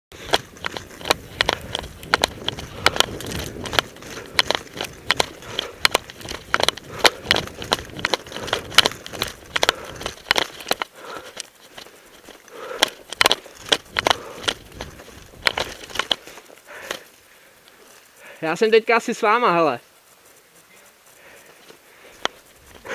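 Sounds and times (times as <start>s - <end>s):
footsteps crunching on frozen leaves: 0.1s - 22.9s.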